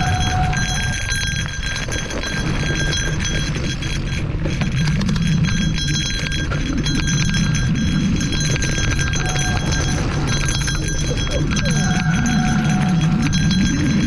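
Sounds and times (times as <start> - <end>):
low rumble of travel: 0.0 - 14.0
rapid rattling clicks: 0.0 - 14.0.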